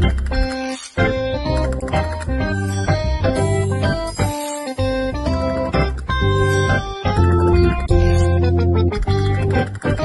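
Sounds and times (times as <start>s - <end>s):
held keyboard chords: 0.0s - 10.0s.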